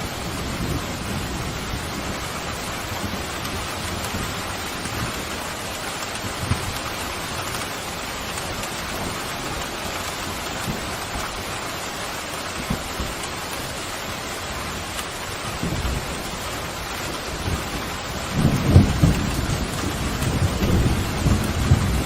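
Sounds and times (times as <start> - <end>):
pouring rain: 0.0 - 22.0.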